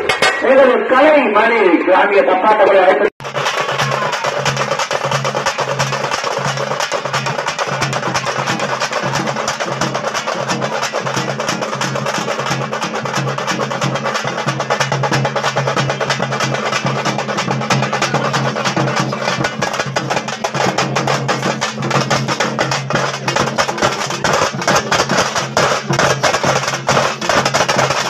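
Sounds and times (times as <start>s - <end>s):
frame drums beaten with sticks: 3.2s - 28.0s.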